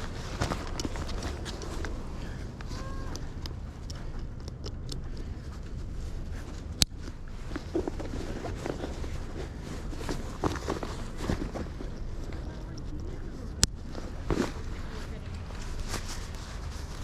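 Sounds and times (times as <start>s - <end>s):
bike clicks and rattles: 0.0s - 16.7s
bicycle tyres rumbling: 0.0s - 17.0s.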